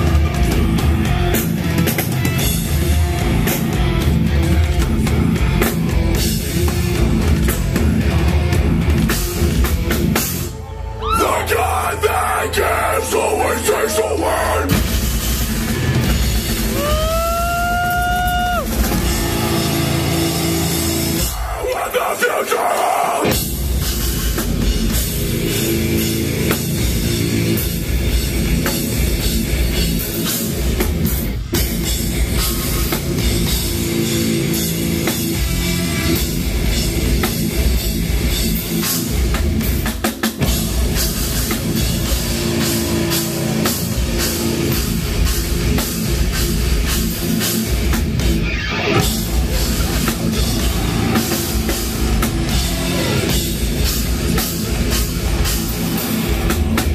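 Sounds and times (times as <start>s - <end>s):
heavy metal band playing live: 0.0s - 56.9s.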